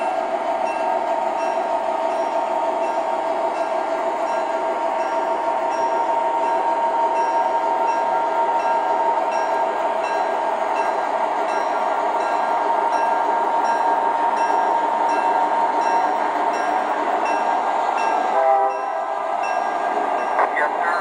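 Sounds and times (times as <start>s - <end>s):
model train hum and whine: 0.0s - 21.0s.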